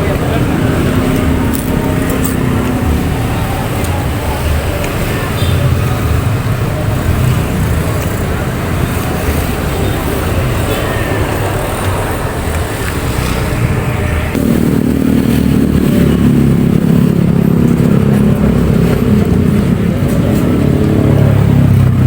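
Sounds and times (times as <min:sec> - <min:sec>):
vehicle engine low hum: 0:00.0 - 0:10.5, 0:14.3 - 0:22.0
road traffic passing: 0:00.0 - 0:22.0.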